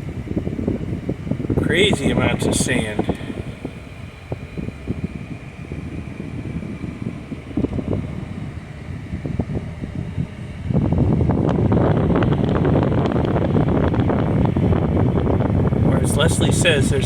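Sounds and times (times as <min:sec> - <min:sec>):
car road noise: 0:00.0 - 0:17.0
wind rumbling on microphone: 0:00.0 - 0:17.0.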